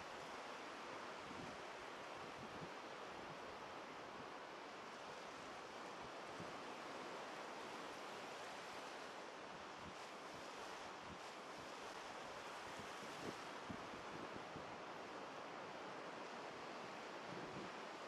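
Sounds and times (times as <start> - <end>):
small waves breaking on beach: 0.0 - 18.0.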